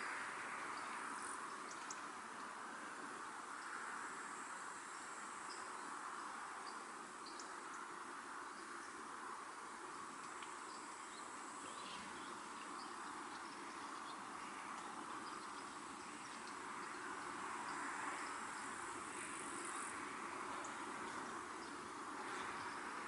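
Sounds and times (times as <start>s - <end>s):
faint insect drone: 0.0s - 23.0s.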